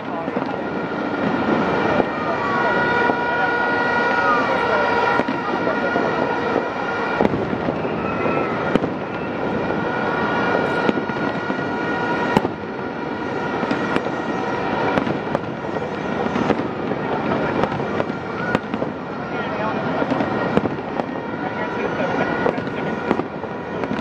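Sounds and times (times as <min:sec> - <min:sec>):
fireworks bangs: 0:00.0 - 0:24.0
fireworks crackling: 0:00.0 - 0:24.0.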